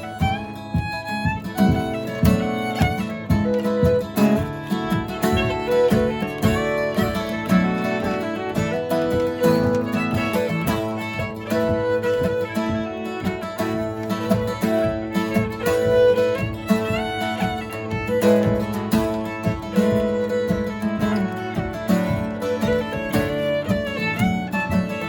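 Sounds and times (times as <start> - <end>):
acoustic guitar strumming: 0.0 - 25.0
fiddle melody: 0.0 - 25.0.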